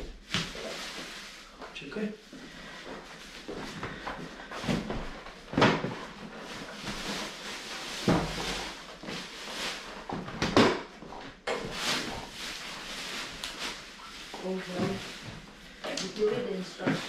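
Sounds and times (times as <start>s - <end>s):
plastic wrapping crinkling: 0.1s - 10.5s, 11.5s - 17.0s.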